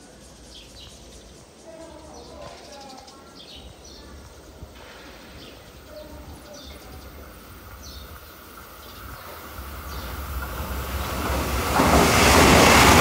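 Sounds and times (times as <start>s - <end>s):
birds chirping: 0.0s - 13.0s
train rumbling: 0.0s - 13.0s.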